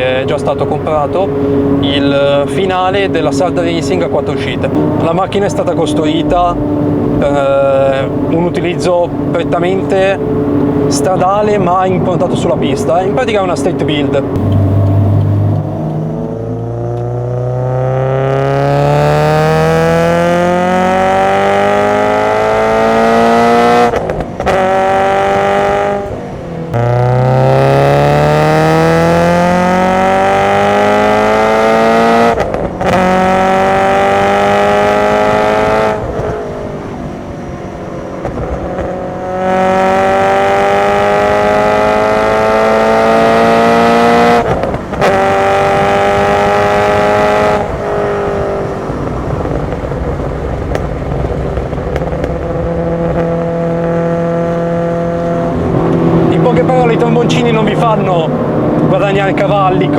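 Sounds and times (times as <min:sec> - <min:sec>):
car engine revving through gears: 0:00.0 - 0:59.9.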